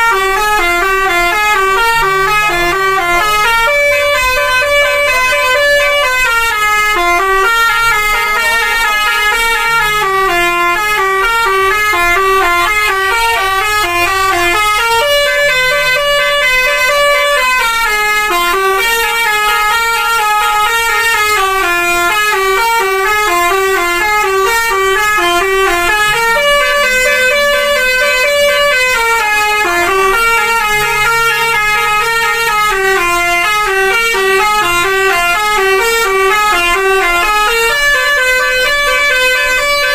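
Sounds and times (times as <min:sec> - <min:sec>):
multi-tone bus horn melody: 0:00.0 - 0:39.9.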